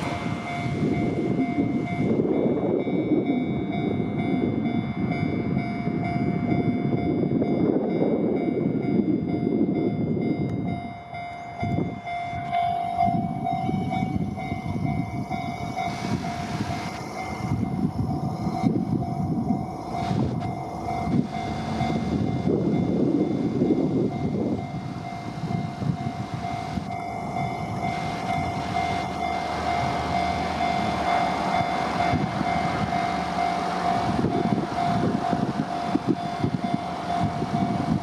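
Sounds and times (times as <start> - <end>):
railroad crossing bell ringing: 0.0 - 38.0
train wheels rumbling on rails: 0.0 - 38.0.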